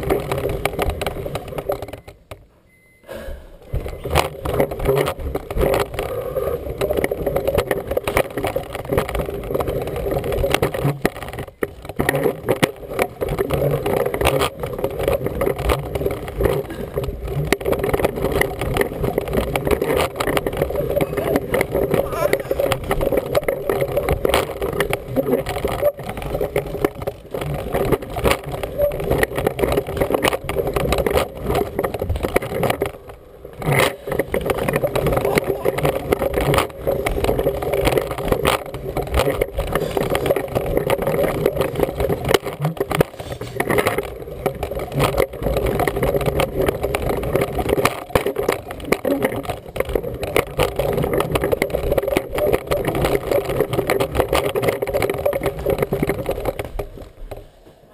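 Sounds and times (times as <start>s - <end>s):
toy walker wheels rattling on floor: 3.9s - 57.2s.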